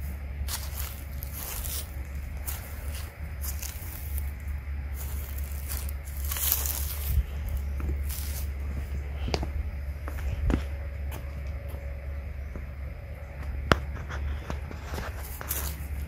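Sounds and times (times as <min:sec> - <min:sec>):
footsteps on dry leaves: 0:00.0 - 0:12.6, 0:13.4 - 0:16.0
wind rumble on microphone: 0:00.1 - 0:16.0.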